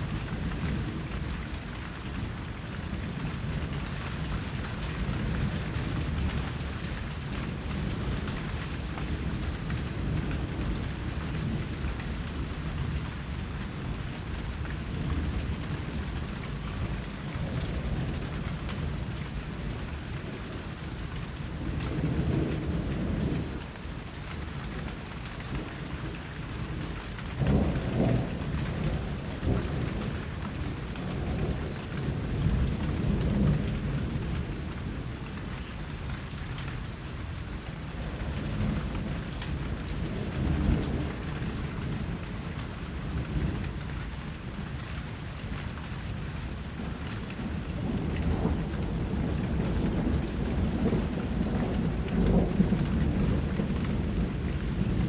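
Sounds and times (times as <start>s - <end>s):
thunder rumbling: 0.0s - 23.8s, 24.5s - 55.0s
heavy rain falling: 0.0s - 55.0s.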